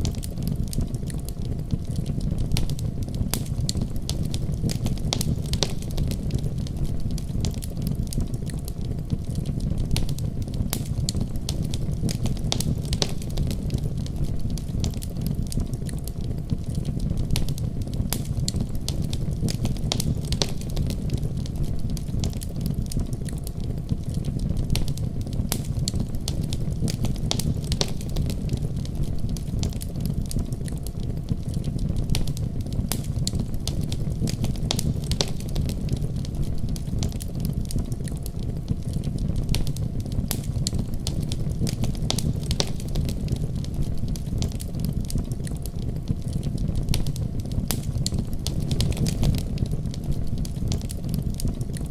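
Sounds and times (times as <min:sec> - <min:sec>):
low rumble of storm wind: 0:00.0 - 0:51.9
wood fire crackling and popping: 0:00.0 - 0:51.9.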